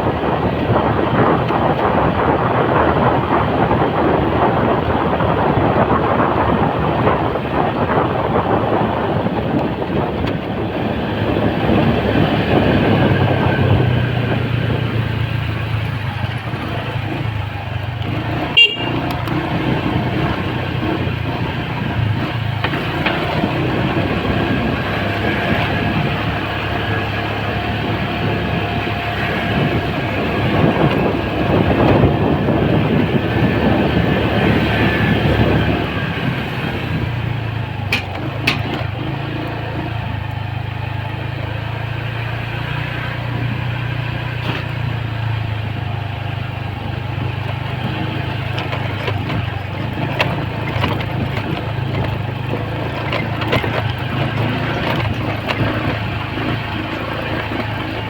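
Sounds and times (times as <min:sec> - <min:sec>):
motorcycle engine running: 0:00.0 - 0:58.0
rushing wind and road noise: 0:00.0 - 0:58.0.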